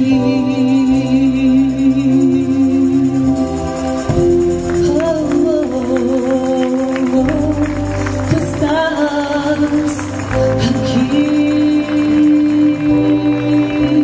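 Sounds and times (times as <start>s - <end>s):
woman singing: 0.0s - 3.3s, 4.7s - 14.0s
keyboard chords: 0.0s - 14.0s.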